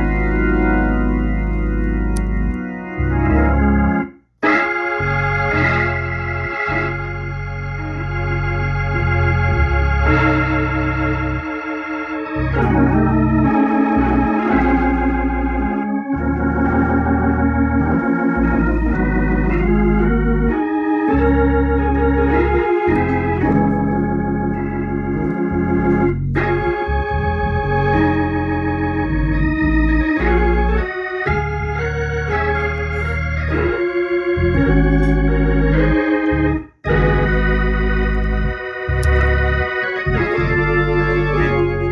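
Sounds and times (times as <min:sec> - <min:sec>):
low bass notes: 0:00.0 - 0:41.9
organ chords: 0:00.0 - 0:41.9.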